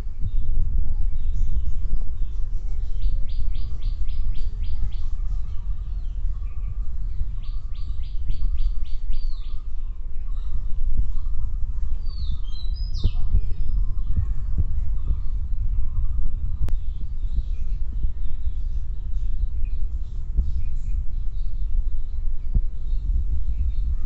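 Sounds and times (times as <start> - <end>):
low rumble on microphone: 0.0 - 24.0.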